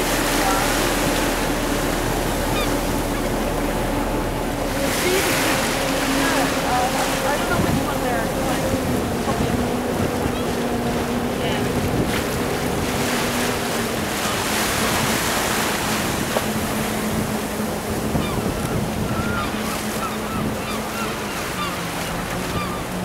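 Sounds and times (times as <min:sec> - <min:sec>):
boat engine droning: 0:00.0 - 0:23.0
choppy sea wash: 0:00.0 - 0:23.0
wind buffeting microphone: 0:00.0 - 0:23.0.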